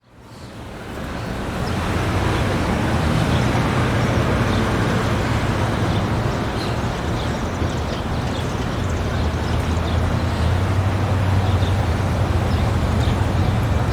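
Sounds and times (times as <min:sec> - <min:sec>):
road traffic rumble: 0:00.1 - 0:13.9.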